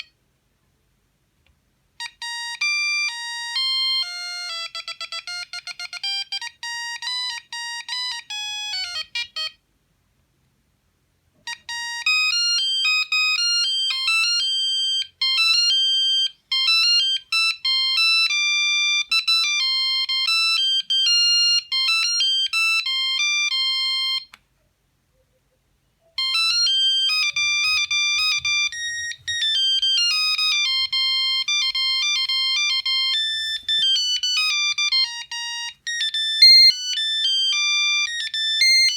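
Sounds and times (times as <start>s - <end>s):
mobile phone ringtone melodies: 2.0s - 9.6s, 11.5s - 24.3s, 26.0s - 38.9s.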